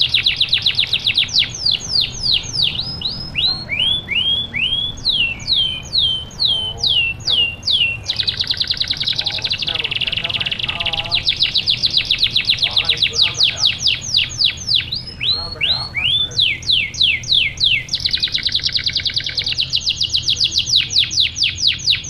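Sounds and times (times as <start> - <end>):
canary singing: 0.0 - 22.0.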